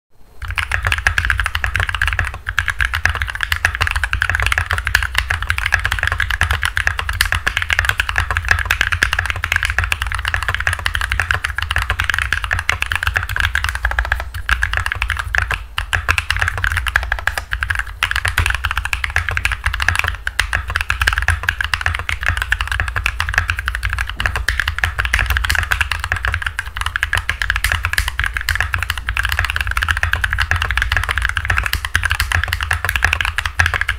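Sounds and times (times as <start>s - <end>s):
low microphone hum: 0.2s - 33.9s
fast mechanical keyboard typing: 0.4s - 33.9s.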